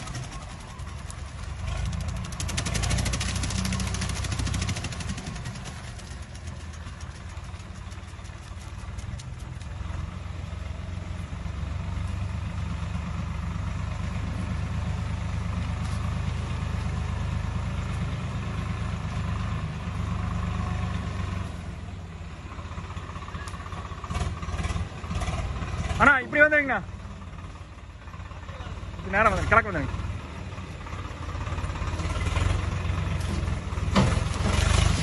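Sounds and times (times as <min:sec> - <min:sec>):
tractor engine drone: 0:00.0 - 0:35.0.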